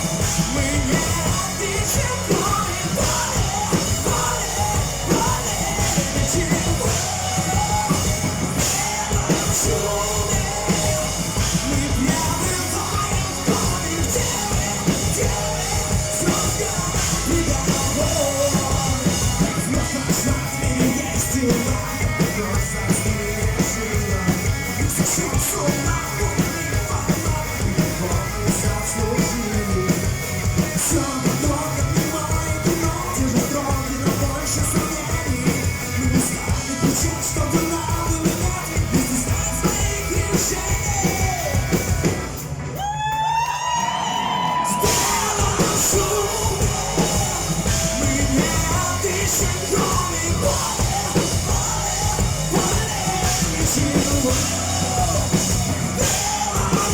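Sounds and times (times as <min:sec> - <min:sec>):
person singing: 0:00.0 - 0:42.0, 0:42.8 - 0:56.9
drums: 0:00.0 - 0:56.9
rock band playing live: 0:00.0 - 0:56.9.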